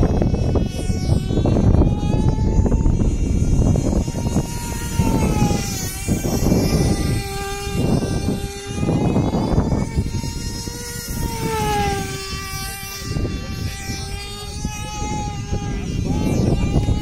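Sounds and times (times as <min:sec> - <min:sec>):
model plane motor whining: 0:00.0 - 0:17.0
wind rumbling on microphone: 0:00.0 - 0:17.0.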